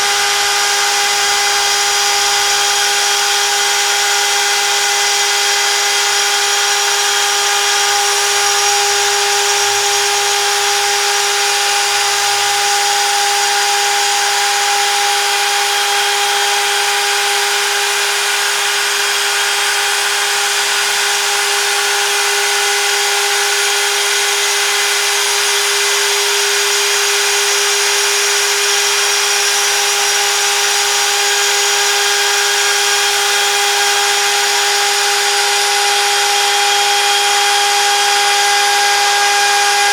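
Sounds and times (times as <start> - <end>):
cnc router spindle whining: 0.0 - 39.9.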